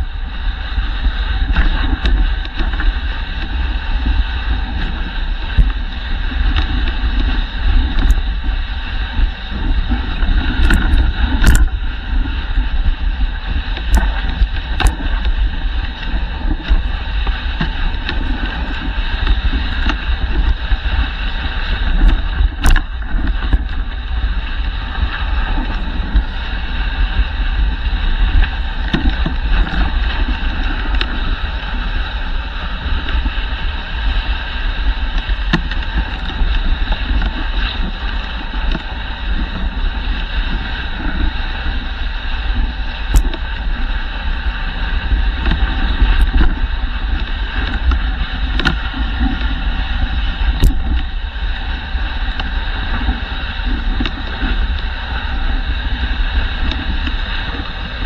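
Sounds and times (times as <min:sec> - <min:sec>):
sled runners hissing on snow: 0:00.0 - 0:58.0
wind buffeting microphone: 0:00.0 - 0:58.0.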